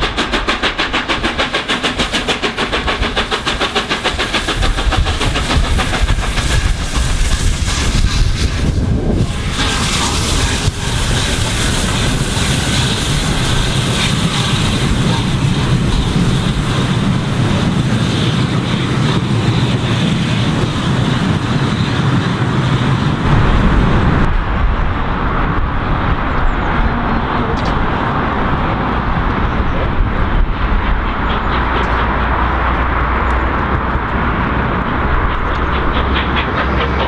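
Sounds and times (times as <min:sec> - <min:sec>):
coaches rolling over rails: 0:00.0 - 0:37.0
steam locomotive passing: 0:00.0 - 0:37.0.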